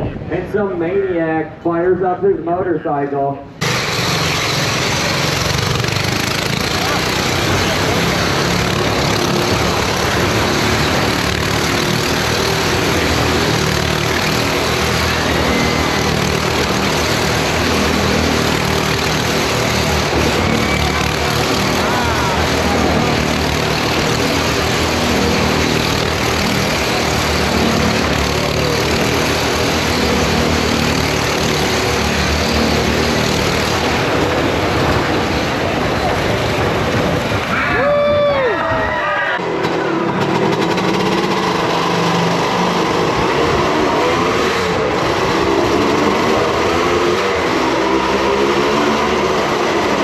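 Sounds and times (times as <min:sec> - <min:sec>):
motorcycle engine running loud: 0:03.6 - 0:50.0.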